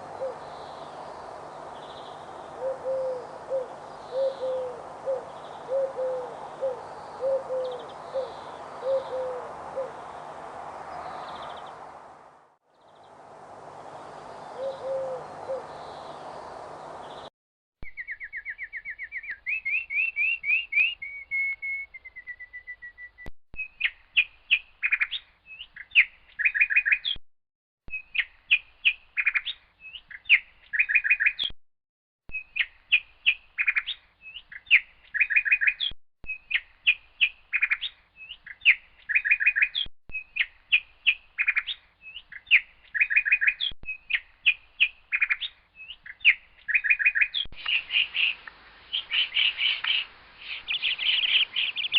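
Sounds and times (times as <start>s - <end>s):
songbird singing high chirps: 0.0s - 10.3s, 10.9s - 11.8s, 13.9s - 27.2s, 27.9s - 31.5s, 32.3s - 51.9s.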